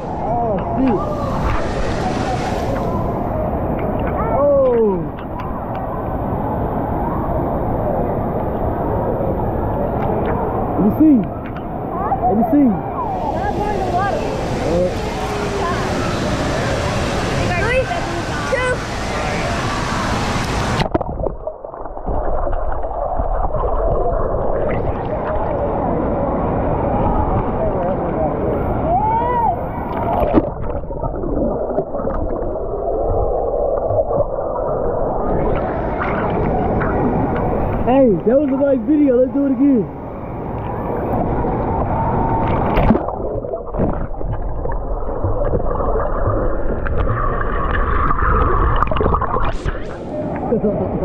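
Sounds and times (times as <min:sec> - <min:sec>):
muffled underwater rumble and gurgle: 0:00.0 - 0:38.6, 0:39.9 - 0:51.0.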